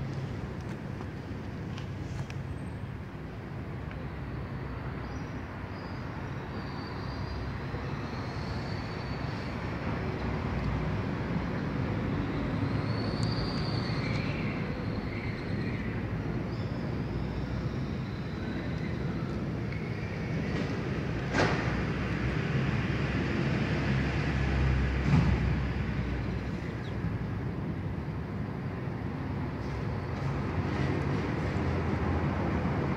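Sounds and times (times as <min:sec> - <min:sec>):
street traffic rumble: 0:00.0 - 0:32.9.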